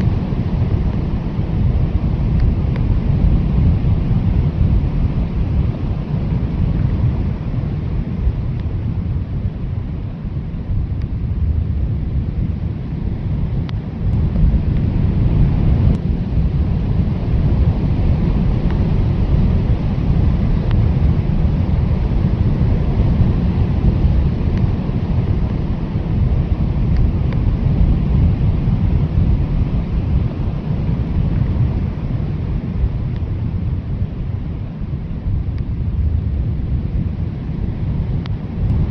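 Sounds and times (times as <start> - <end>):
strong blizzard wind: 0.0 - 38.9.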